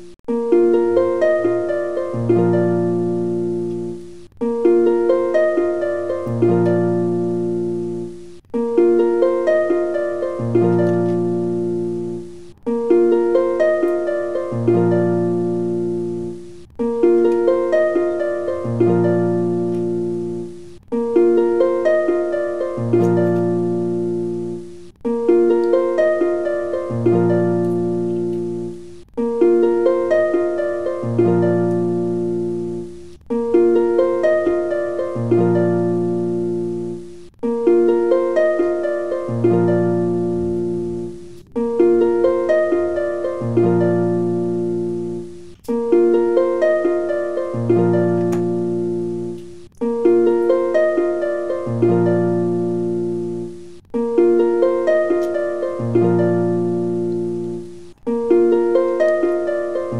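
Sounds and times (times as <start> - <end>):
plucked harp-like melody: 0.0 - 59.9.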